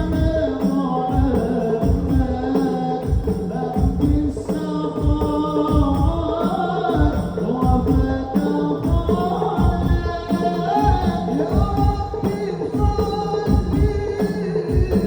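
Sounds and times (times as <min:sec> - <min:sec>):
devotional singing: 0:00.0 - 0:15.0
frame drums beat: 0:00.0 - 0:15.0.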